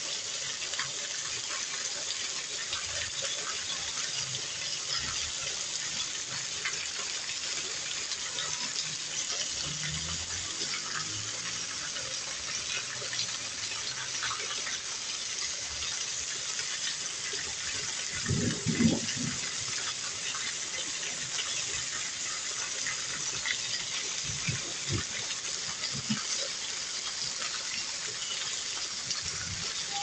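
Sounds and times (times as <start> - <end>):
heavy rain pouring: 2.0 - 14.9, 15.5 - 30.0.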